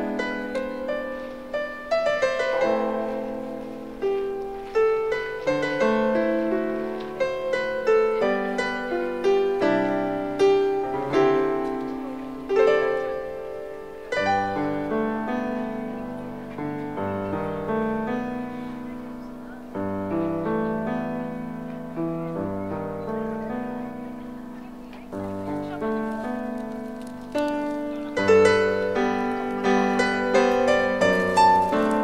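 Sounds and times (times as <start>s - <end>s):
solo piano music: 0.0s - 32.0s.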